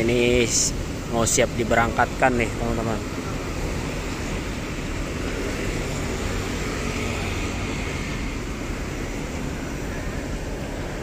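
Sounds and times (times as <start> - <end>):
bus idling: 0.0 - 11.0
street traffic: 0.0 - 11.0.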